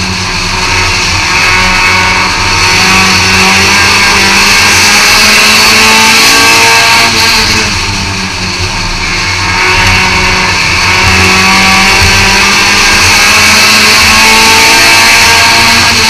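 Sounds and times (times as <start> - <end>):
racing car engine running hard: 0.0 - 16.0.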